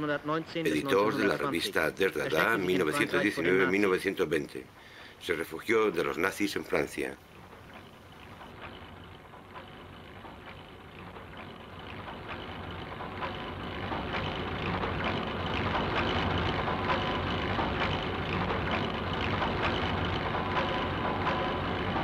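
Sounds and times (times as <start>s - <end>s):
mechanical clattering and whirring: 0.4s - 22.0s.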